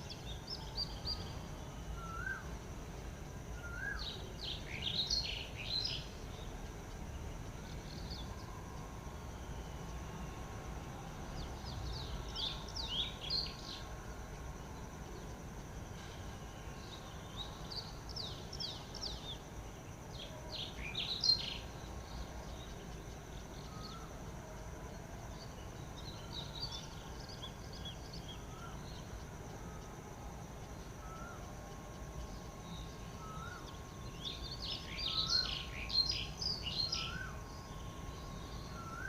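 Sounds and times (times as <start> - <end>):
wild birds chirping: 0.0 - 10.3, 10.9 - 39.0
faint high hiss: 0.0 - 39.0.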